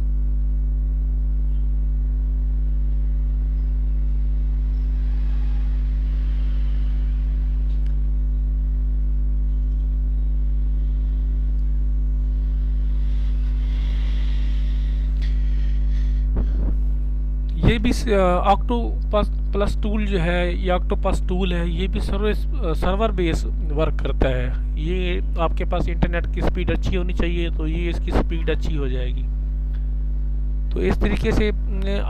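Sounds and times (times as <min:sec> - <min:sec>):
electrical mains hum: 0:00.0 - 0:32.0.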